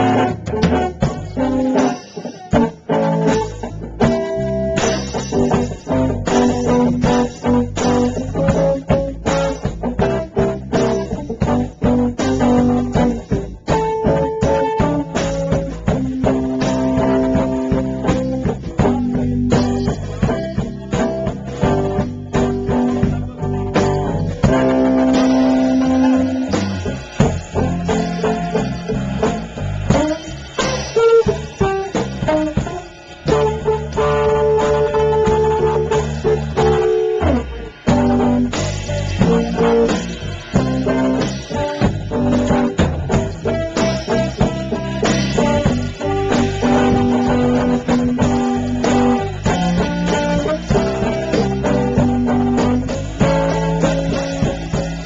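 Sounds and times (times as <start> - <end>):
instrumental guitar music: 0.0 - 55.0.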